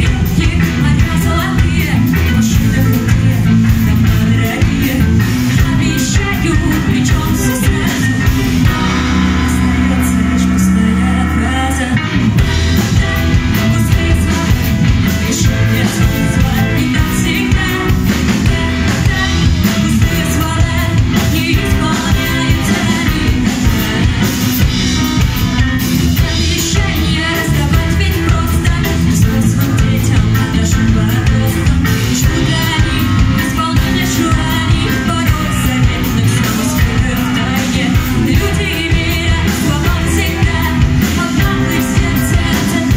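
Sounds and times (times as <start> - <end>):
bass guitar: 0.0 - 42.9
drum kit: 0.0 - 42.9
electric guitar: 0.0 - 42.9
woman singing: 0.0 - 42.9.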